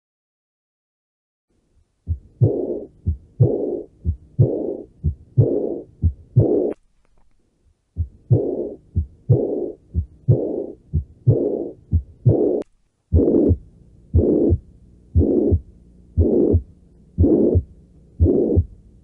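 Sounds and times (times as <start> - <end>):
heartbeat thumps with murmur: 2.0 - 6.8, 8.0 - 18.8.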